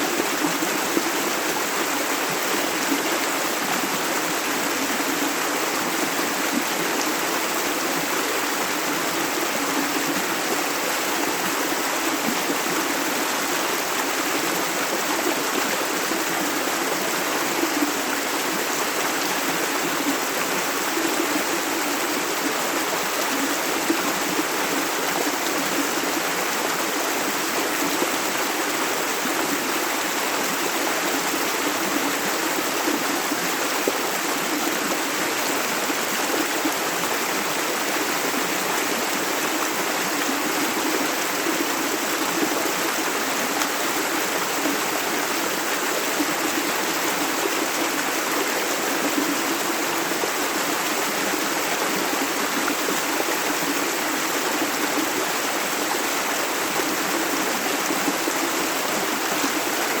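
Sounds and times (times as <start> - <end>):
river flowing over stones: 0.0 - 60.0.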